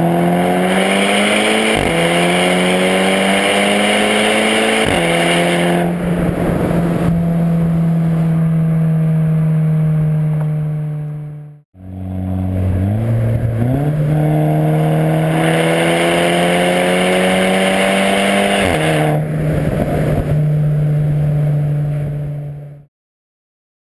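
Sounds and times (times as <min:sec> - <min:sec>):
car engine revving in a tunnel: 0:00.0 - 0:22.9.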